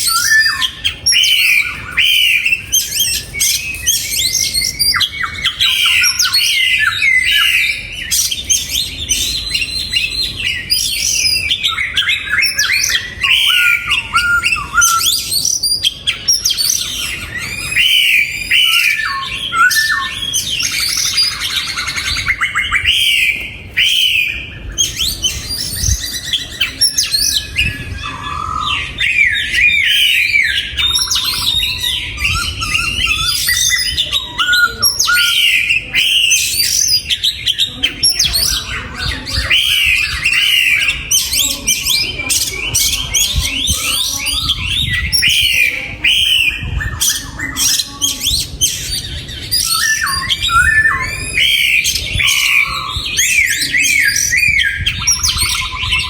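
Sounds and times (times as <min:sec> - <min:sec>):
bird whistled notes: 0:00.0 - 0:56.0.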